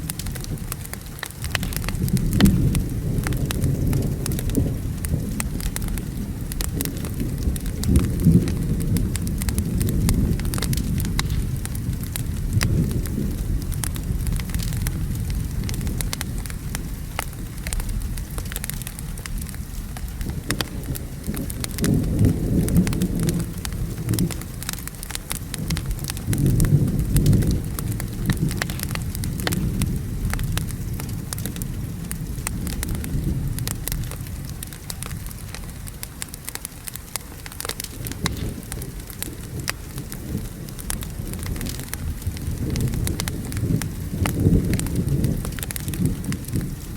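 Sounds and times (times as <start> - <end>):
rumbling thunder: 0.0 - 46.9
steady rain: 0.0 - 46.9
wood fire crackling: 0.0 - 46.9.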